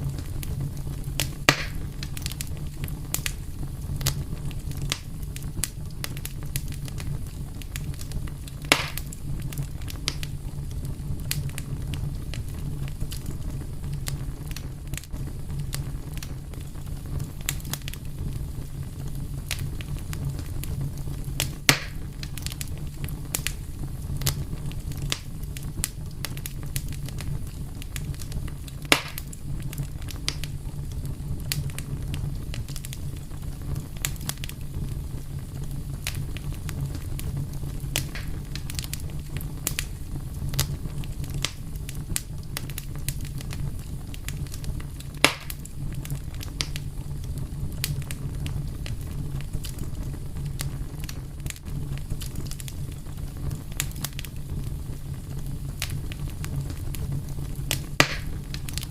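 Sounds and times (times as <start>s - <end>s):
fire crackling and popping: 0.0s - 58.9s
fire rumbling: 0.0s - 58.9s.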